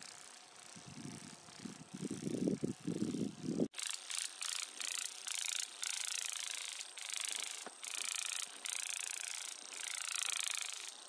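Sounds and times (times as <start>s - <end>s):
grasshoppers clicking: 0.0s - 11.0s.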